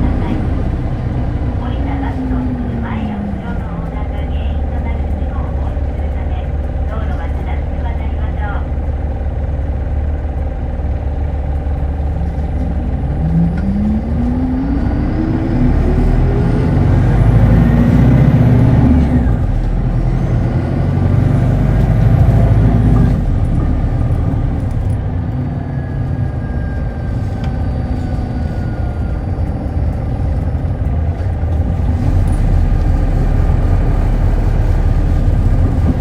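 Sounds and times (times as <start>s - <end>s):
bus engine whine and rumble: 0.0s - 36.0s.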